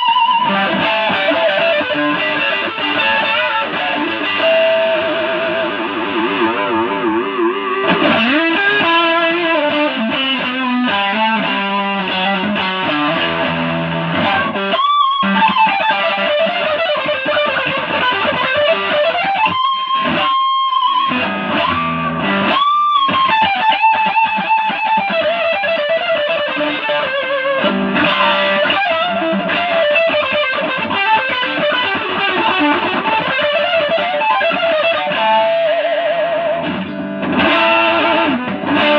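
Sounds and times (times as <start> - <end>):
electric guitar lead line: 0.0 - 38.9.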